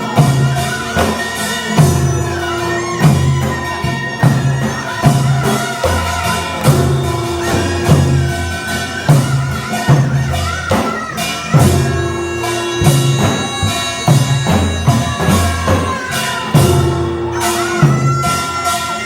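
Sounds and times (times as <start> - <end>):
reedy wind instrument melody: 0.0 - 19.0
steady drum beat: 0.0 - 19.0.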